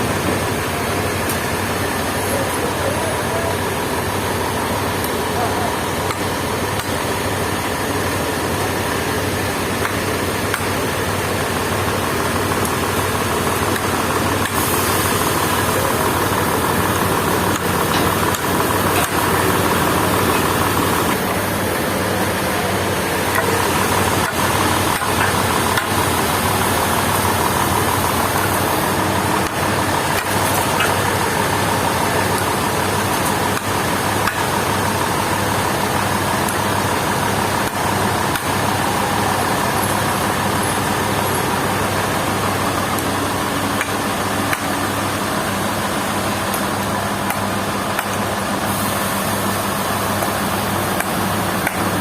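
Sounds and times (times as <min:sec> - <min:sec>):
sawmill machinery running: 0:00.0 - 0:52.0.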